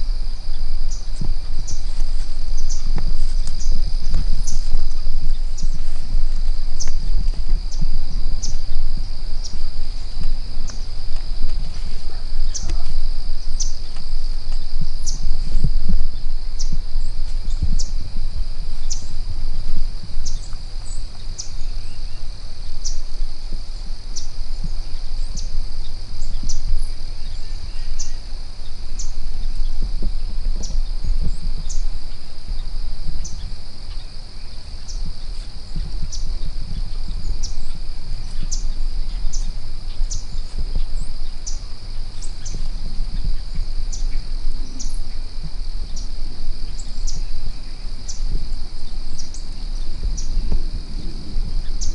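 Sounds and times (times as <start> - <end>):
insect chirps: 0.0 - 51.9
insects droning: 0.0 - 51.9
low rumble: 0.0 - 51.9.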